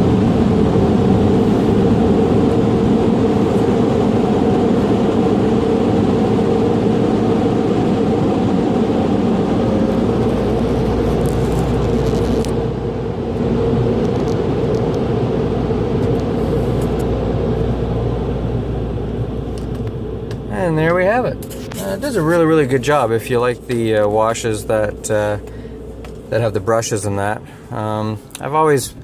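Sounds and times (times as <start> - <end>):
car wash air dryers blowing: 0.0 - 29.0.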